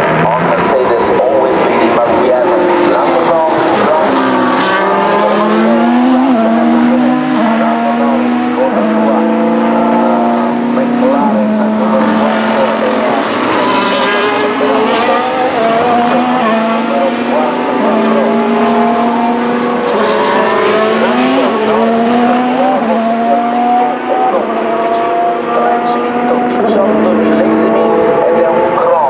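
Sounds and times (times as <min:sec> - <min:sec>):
racing car engines on track: 0:00.0 - 0:29.0.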